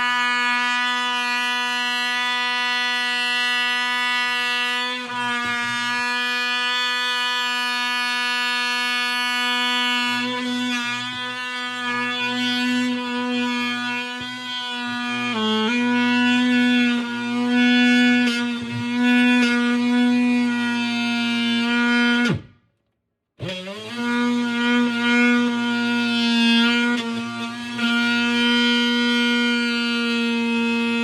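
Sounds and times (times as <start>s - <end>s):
oscillating multi-tool cutting: 0.0s - 22.5s, 23.4s - 31.0s.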